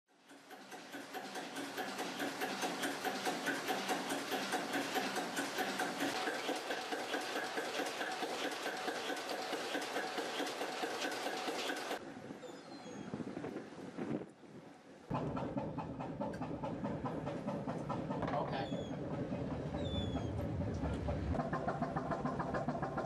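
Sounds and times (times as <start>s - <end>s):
marine engine running: 0.4s - 12.0s, 15.1s - 23.0s.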